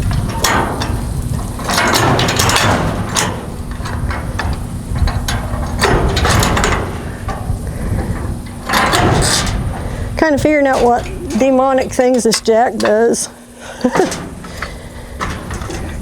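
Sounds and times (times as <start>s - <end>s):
jack metal clanks: 0.0s - 16.0s
jack ratcheting clicks: 0.0s - 16.0s.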